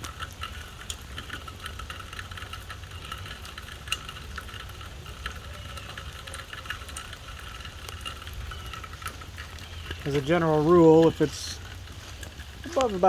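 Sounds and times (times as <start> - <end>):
raindrops ticking: 0.0 - 13.0.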